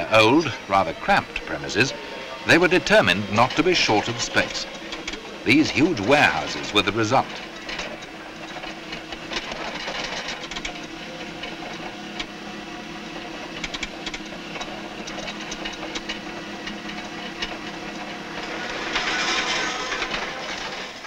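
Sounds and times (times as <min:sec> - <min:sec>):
machine running with hum: 0:00.0 - 0:21.0.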